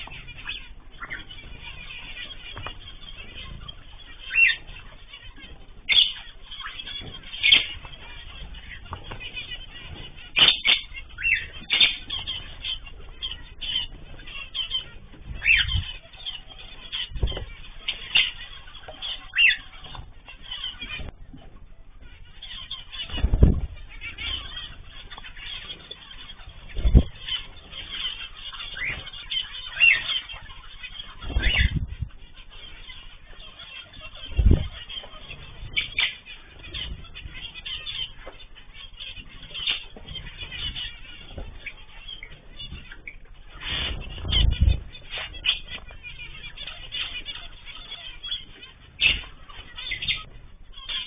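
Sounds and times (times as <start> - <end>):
cage birds chirping and calling: 0.0 - 51.0
wings flapping: 0.0 - 51.0.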